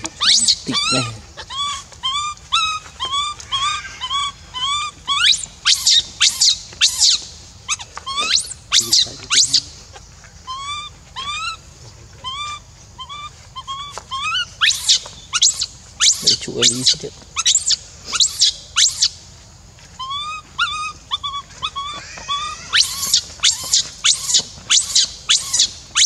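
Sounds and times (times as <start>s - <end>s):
baby monkey whimpering: 0.0s - 9.6s, 10.5s - 11.6s, 12.2s - 19.1s, 20.0s - 26.0s
baby monkey screeching: 0.0s - 9.8s, 10.4s - 11.6s, 12.2s - 19.2s, 19.9s - 26.0s.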